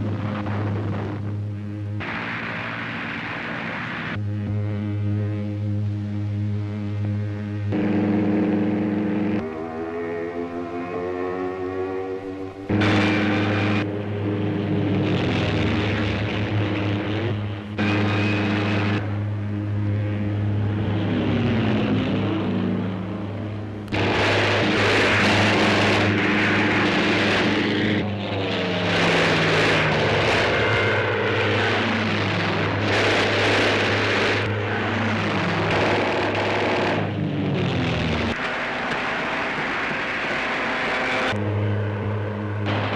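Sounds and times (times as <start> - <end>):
loud rushing noise bursts: 0.0 - 4.2, 12.4 - 42.9
propeller aircraft engines droning: 0.0 - 42.9.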